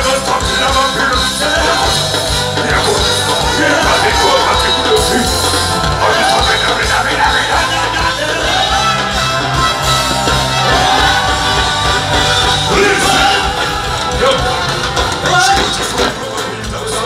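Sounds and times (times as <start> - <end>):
man singing into a microphone: 0.0 - 9.6, 12.7 - 17.0
live music through pa: 0.0 - 17.0
steady bass line: 0.0 - 17.0.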